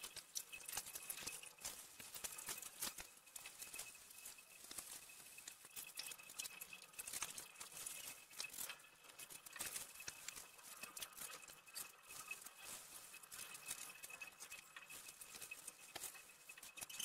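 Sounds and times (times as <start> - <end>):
light clicks and drips: 0.0 - 17.0.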